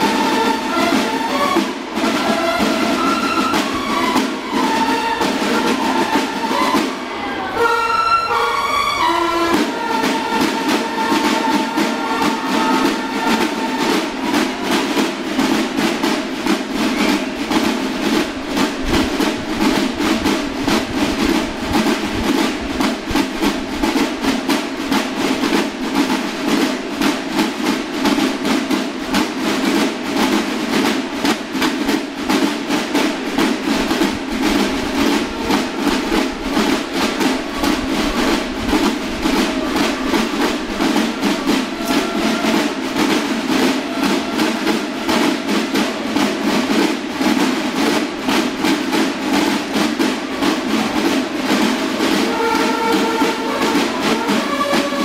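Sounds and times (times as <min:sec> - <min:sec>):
marching snare and bass drums: 0:00.0 - 0:07.7, 0:09.0 - 0:55.0.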